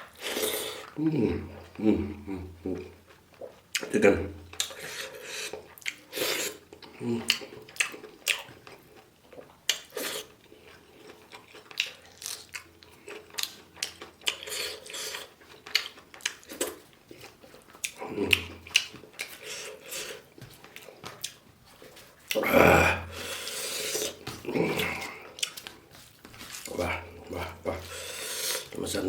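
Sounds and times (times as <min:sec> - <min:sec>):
chewing and eating: 0:00.0 - 0:29.0.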